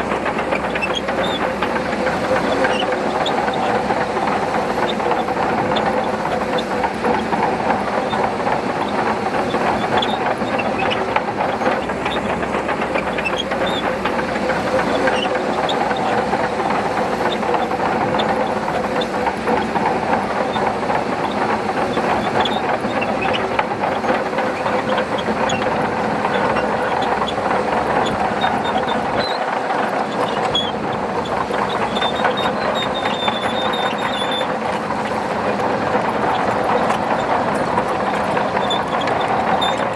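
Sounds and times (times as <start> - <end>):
bulldozer diesel engine running: 0.0 - 39.9
steel tracks clattering: 0.0 - 39.9.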